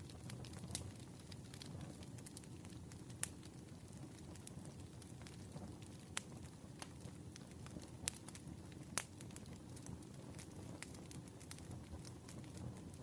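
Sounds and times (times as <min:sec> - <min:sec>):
campfire crackling: 0:00.0 - 0:13.0
sharp fire pops: 0:00.0 - 0:13.0.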